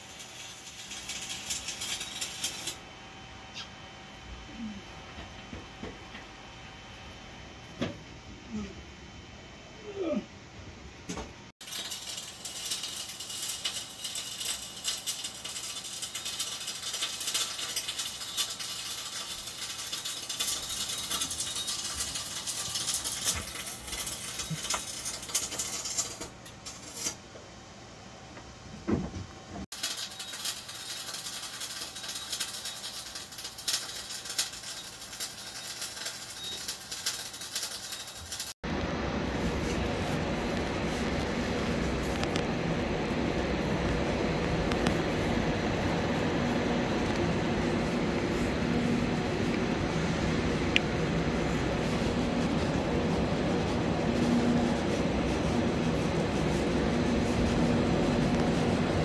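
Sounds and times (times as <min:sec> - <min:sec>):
crackling hissing hot metal: 0:00.0 - 0:02.9, 0:11.5 - 0:27.3, 0:29.6 - 0:59.0.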